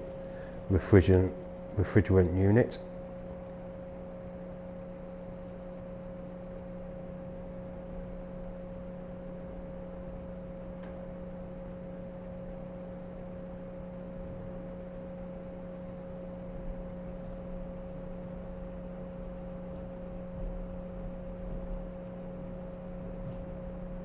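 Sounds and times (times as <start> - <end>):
heat pump fan and compressor hum: 0.0 - 24.0.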